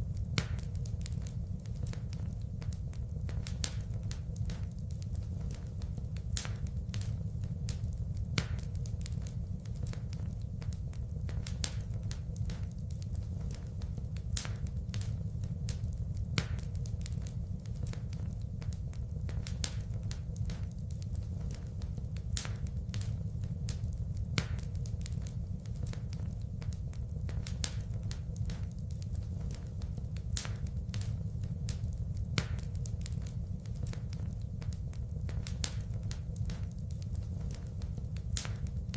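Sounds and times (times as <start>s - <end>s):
fire crackling and popping: 0.0s - 38.9s
low rumble of flame: 0.0s - 38.9s.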